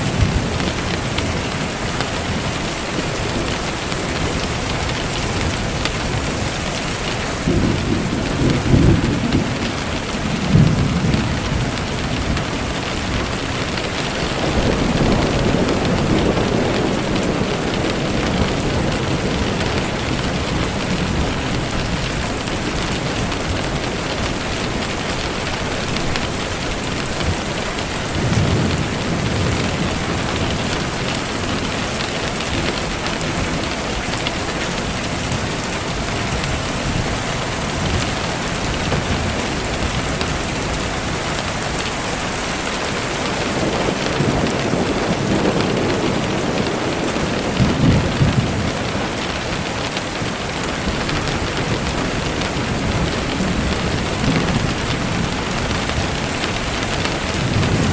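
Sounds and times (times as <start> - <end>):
rain falling: 0.0 - 57.9
thunder rolling: 0.0 - 57.9.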